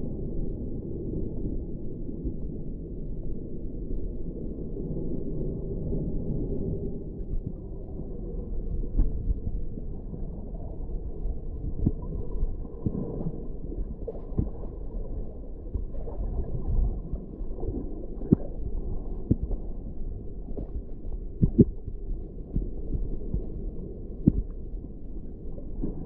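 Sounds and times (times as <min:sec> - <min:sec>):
muffled underwater rumble: 0:00.0 - 0:26.0.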